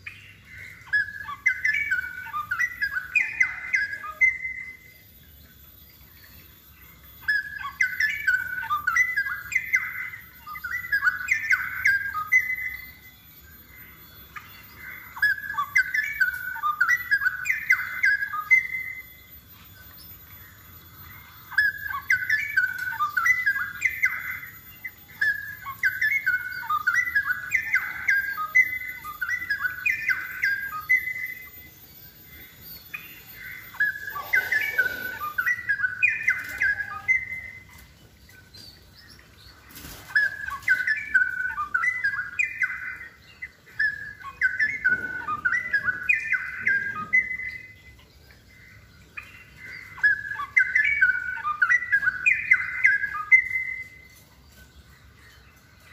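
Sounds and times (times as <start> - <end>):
bird singing warbled notes: 0.0 - 55.9.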